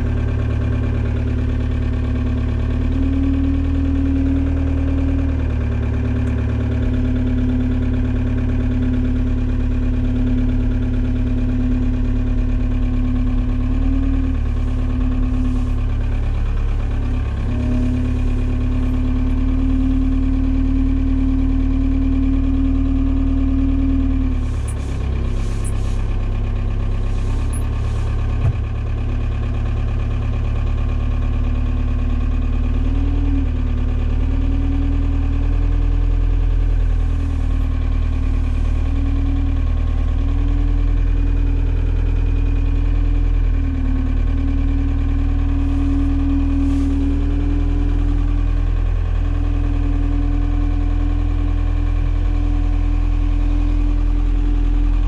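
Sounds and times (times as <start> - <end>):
forklift motor hum: 0.0 - 55.0.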